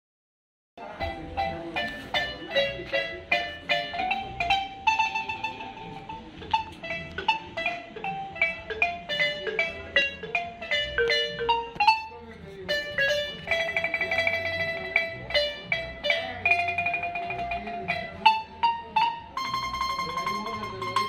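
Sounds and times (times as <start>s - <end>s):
marimba melody: 0.8s - 21.0s.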